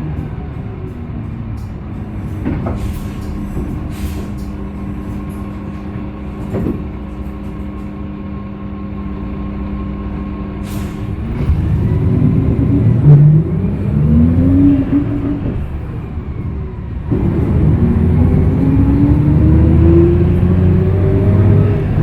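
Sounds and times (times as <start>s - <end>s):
bus engine idling and accelerating: 0.0s - 22.0s.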